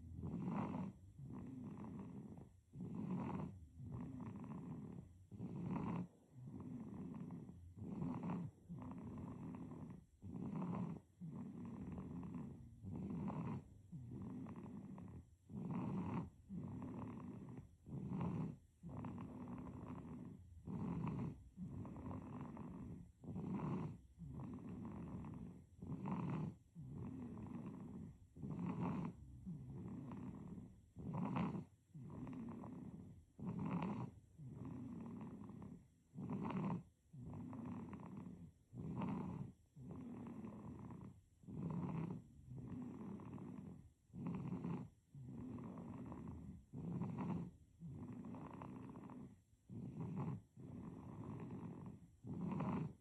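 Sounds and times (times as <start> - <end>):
baby snoring: 0.0 - 53.0.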